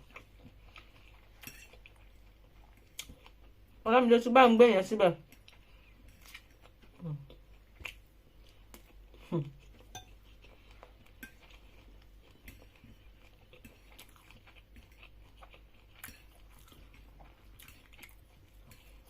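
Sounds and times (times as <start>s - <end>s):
chewing: 0.0s - 3.5s, 5.3s - 19.0s.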